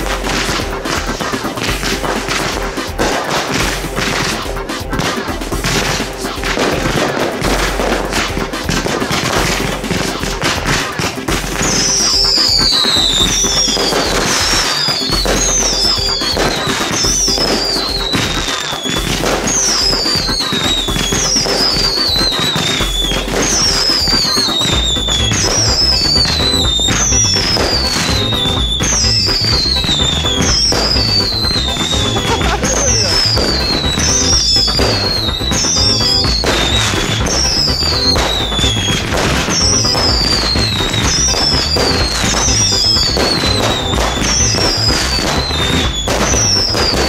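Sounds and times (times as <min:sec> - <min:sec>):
fireworks pops and crackles: 0:00.0 - 0:47.0
falling wavering whistles: 0:08.8 - 0:47.0.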